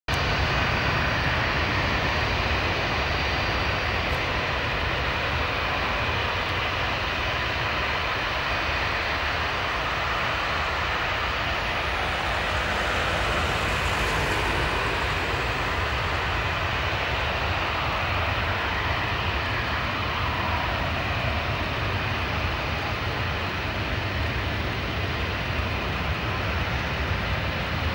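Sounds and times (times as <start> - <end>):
jet engine noise: 0.1 - 27.9.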